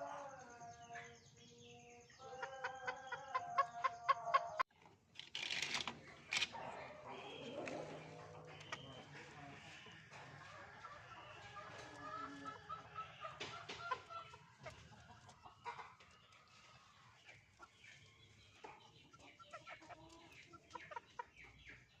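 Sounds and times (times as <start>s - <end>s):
hen clucking: 2.2s - 4.7s, 6.0s - 22.0s.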